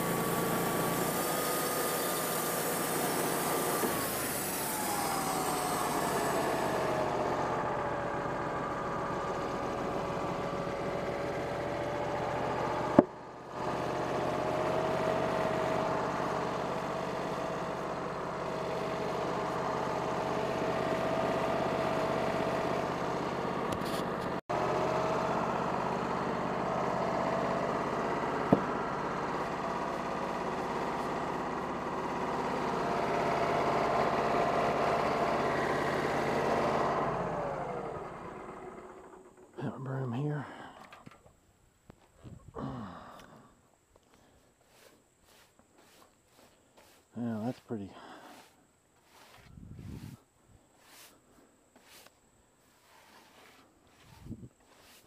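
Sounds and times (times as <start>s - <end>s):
band sawmill cutting log: 0.0s - 39.5s, 44.6s - 50.2s, 50.8s - 55.0s.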